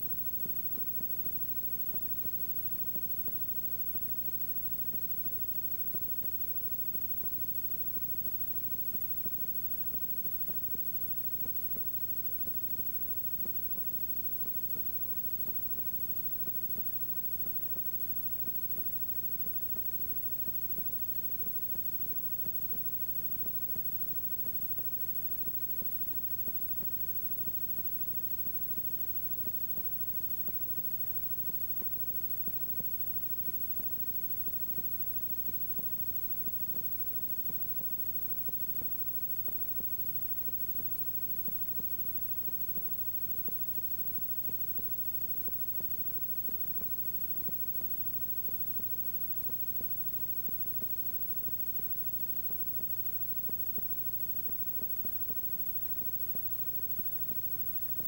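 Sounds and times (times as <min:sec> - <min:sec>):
faint ticks: 0:00.0 - 0:58.0.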